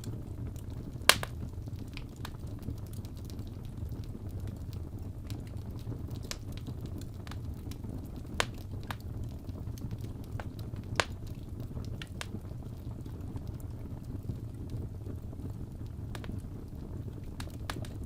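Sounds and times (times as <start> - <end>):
fire popping: 0.0 - 18.0
wood fire crackling: 0.0 - 18.0.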